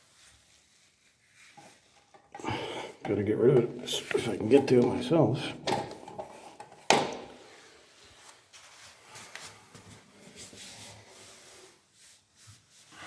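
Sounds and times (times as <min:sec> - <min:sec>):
faint rubbing and handling: 0:00.0 - 0:13.0.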